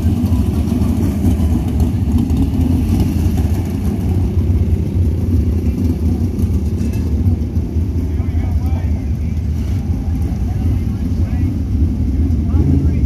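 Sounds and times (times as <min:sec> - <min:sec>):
low rumble of engines: 0:00.0 - 0:13.0.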